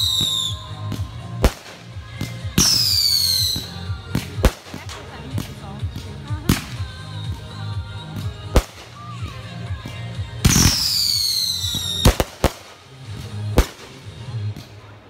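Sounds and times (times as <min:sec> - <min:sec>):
fireworks bangs: 0:00.0 - 0:07.4, 0:08.1 - 0:14.8.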